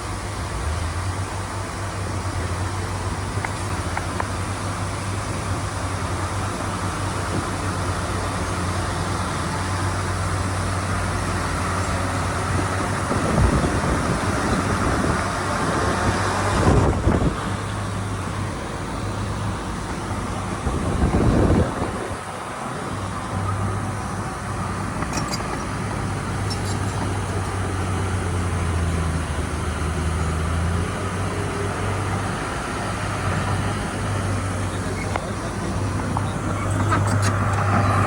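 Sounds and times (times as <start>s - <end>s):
diesel earthmoving machinery running: 0.0s - 38.0s.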